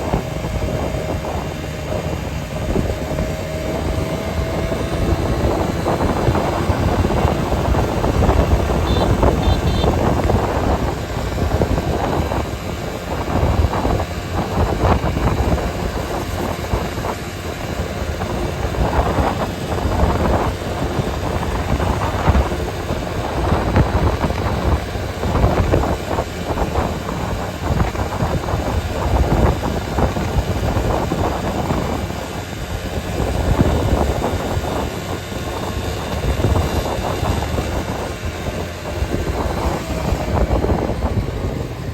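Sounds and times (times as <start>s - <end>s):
vehicle engine and road noise: 0.0s - 41.9s.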